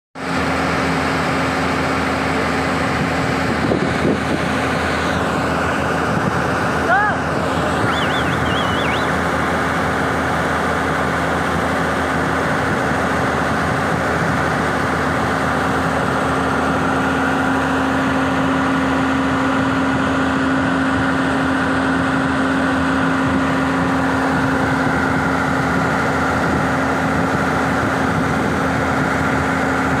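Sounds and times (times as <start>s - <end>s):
diesel engine idling: 0.6s - 30.0s.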